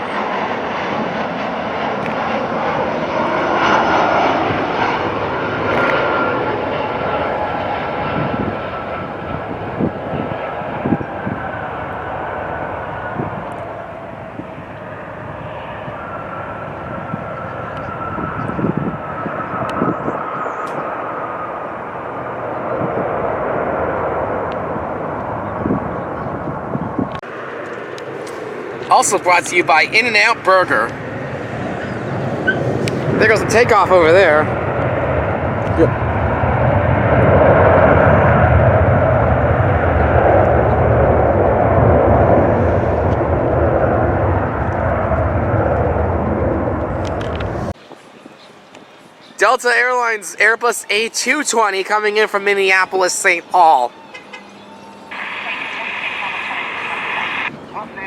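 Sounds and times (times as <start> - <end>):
jet engines whining: 0.0 - 48.1, 49.4 - 58.0
wind buffeting microphone: 0.0 - 49.2.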